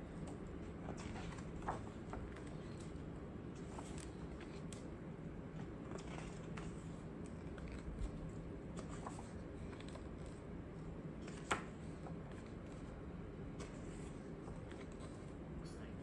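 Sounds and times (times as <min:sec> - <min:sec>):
steady low hum: 0:00.0 - 0:16.0
book pages rustling: 0:00.1 - 0:15.4.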